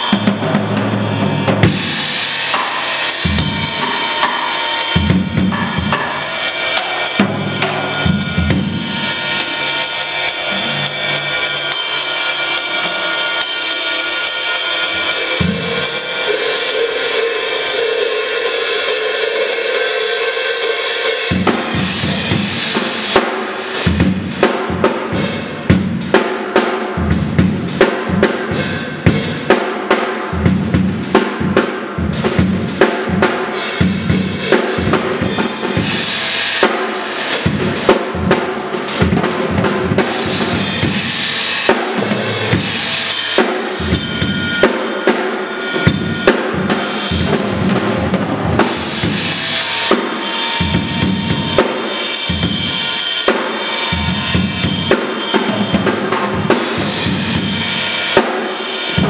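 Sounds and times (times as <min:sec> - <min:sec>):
cymbal crashes: 0:00.0 - 0:59.0.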